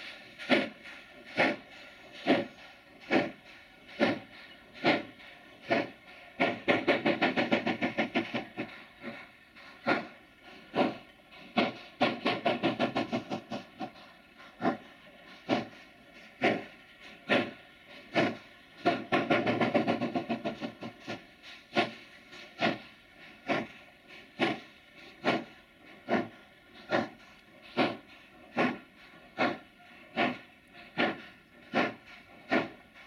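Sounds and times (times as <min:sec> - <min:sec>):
steam locomotive exhaust beats: 0:00.0 - 0:33.0.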